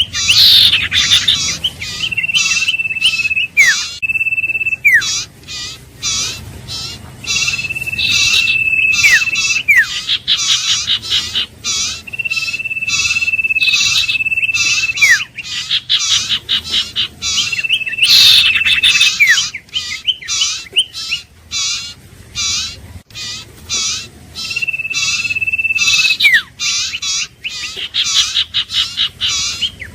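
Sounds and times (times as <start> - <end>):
repeated bird chirps: 0.0 - 29.9.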